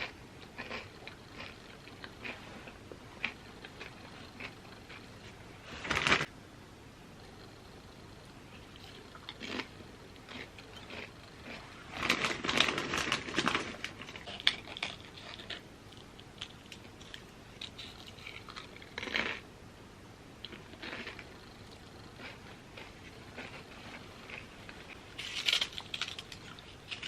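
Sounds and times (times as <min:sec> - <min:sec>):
chips crunching and chewed: 0:00.0 - 0:02.4, 0:03.2 - 0:05.1, 0:08.6 - 0:19.4, 0:20.4 - 0:27.0.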